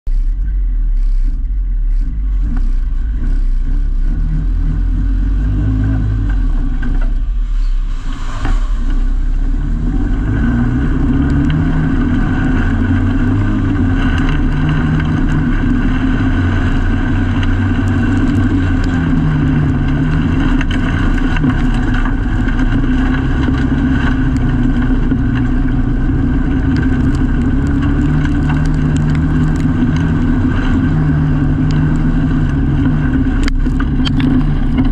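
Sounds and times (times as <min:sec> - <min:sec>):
race car engine revving: 0:00.0 - 0:34.9.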